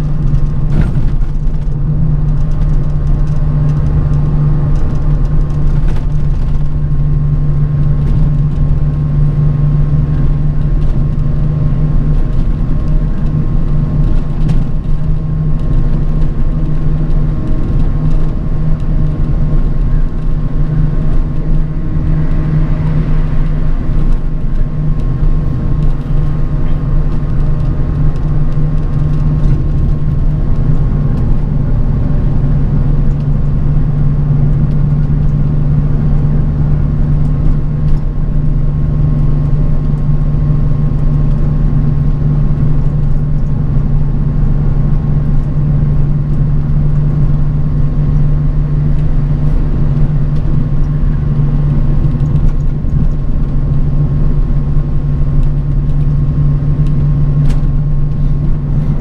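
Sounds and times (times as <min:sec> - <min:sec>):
bus engine drone: 0:00.0 - 0:59.0
road rumble: 0:00.0 - 0:59.0.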